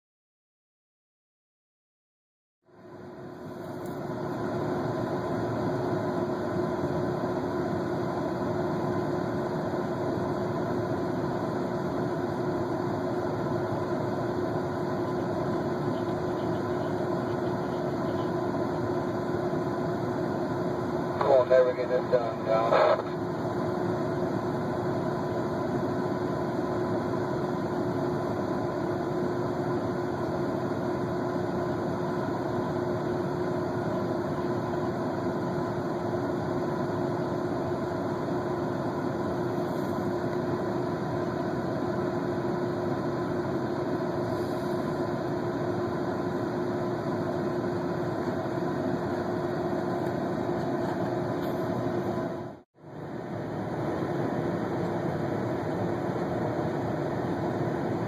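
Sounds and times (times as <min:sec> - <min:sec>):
heavy equipment engine humming: 0:02.7 - 0:58.0.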